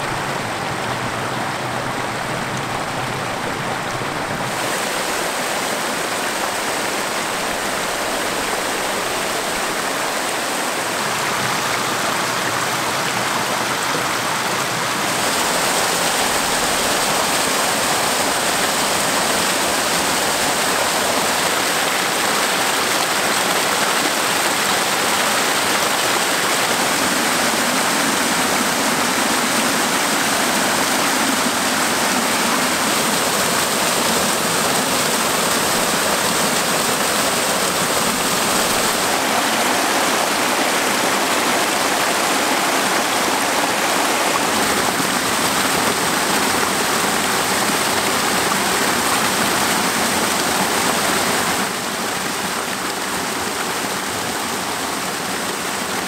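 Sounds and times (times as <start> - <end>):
river rushing over rocks: 0.0 - 56.0.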